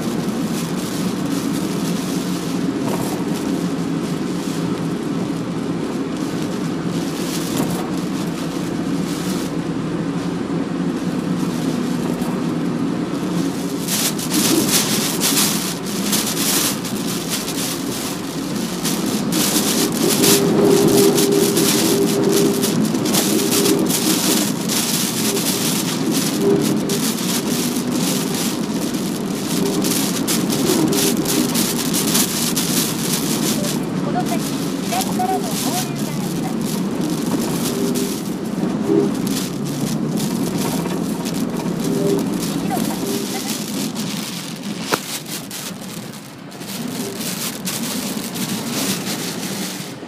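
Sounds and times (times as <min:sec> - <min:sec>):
car hum on wet road: 0:00.0 - 0:50.0
heavy rain and wind on car: 0:00.0 - 0:50.0.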